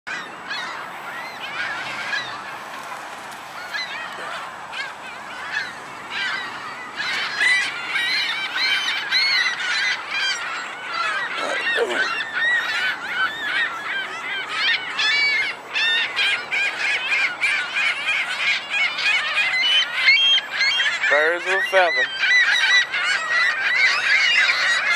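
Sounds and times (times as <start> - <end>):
seagulls calling: 0.1 - 24.9.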